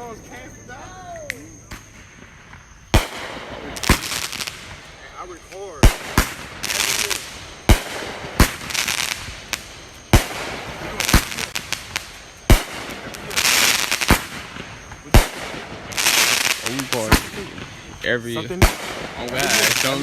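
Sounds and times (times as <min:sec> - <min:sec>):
crackling hiss: 0:00.0 - 0:20.0
firework bangs: 0:00.0 - 0:20.0.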